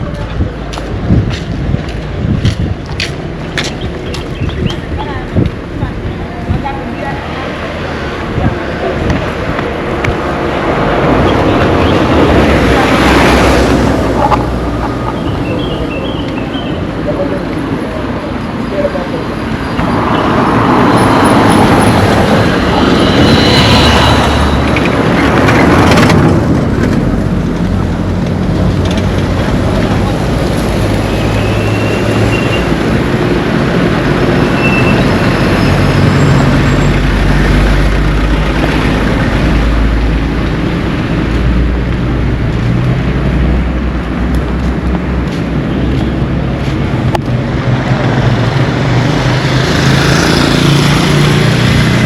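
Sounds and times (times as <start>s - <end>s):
vehicle engine hum: 0.0s - 52.0s
loud rushing noise: 7.5s - 16.0s, 17.7s - 52.0s.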